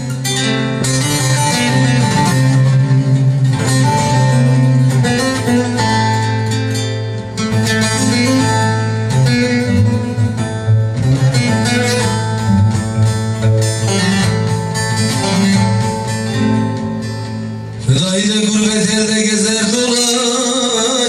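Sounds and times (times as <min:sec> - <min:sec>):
guitar accompaniment: 0:00.0 - 0:21.0
plucked lute melody: 0:00.0 - 0:21.0.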